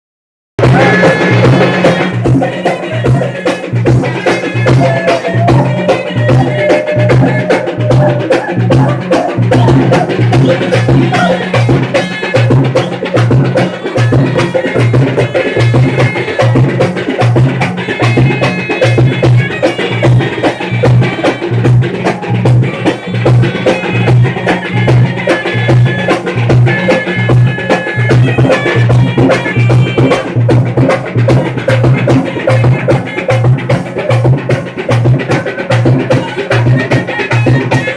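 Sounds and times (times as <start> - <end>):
deep drum beat: 0.6 - 37.9
folk drum ensemble: 0.6 - 37.9.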